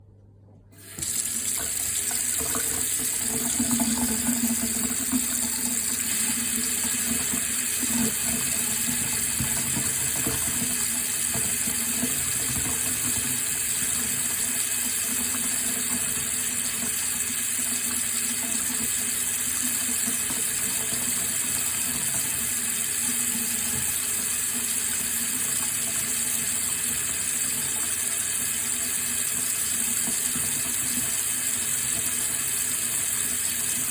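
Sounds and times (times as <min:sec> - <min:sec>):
water running: 0:00.8 - 0:33.9.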